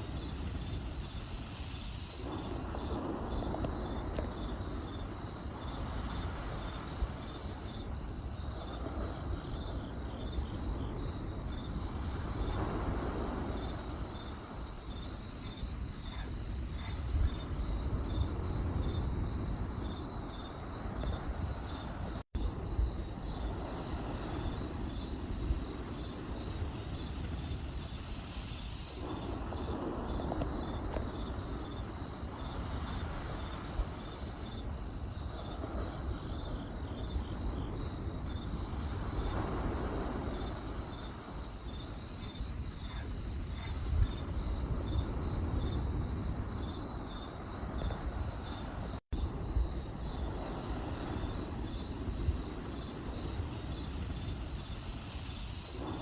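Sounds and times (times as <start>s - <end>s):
crackling campfire: 0.0s - 56.0s
crickets chirping: 0.0s - 56.0s.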